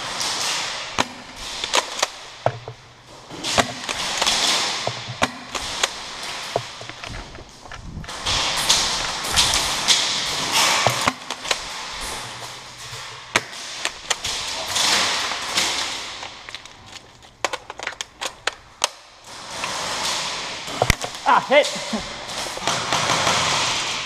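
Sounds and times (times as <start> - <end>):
airsoft shots clicking and snapping: 0.1 - 2.8, 3.4 - 21.2.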